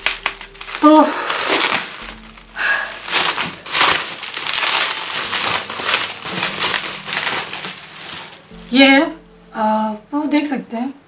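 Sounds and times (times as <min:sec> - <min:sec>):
bubble wrap crinkling: 0:00.0 - 0:09.3.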